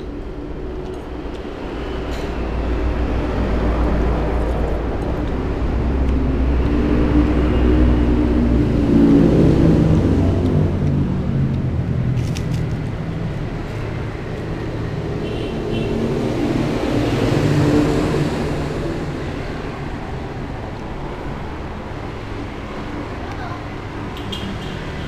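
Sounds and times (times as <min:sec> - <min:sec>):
traffic passing: 0:00.0 - 0:25.0.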